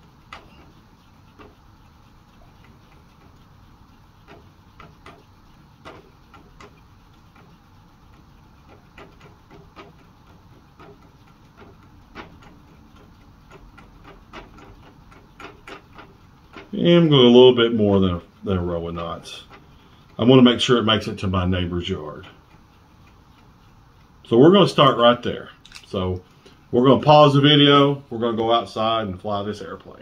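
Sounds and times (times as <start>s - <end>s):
rubber band motor clicking: 0.0s - 29.0s.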